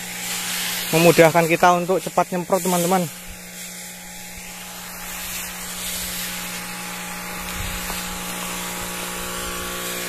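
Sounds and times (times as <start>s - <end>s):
electric pump motors humming: 0.0s - 10.0s
spray hissing from nozzle: 0.0s - 10.0s.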